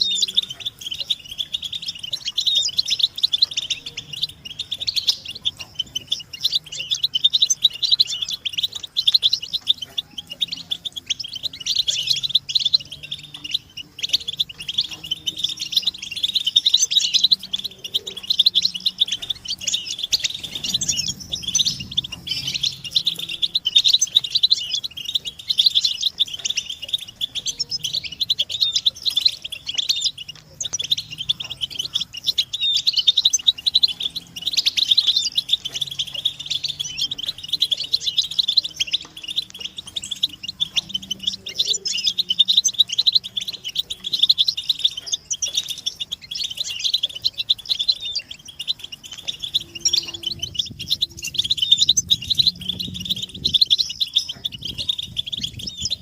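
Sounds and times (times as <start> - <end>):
goldfinches twittering: 0.0 - 56.0.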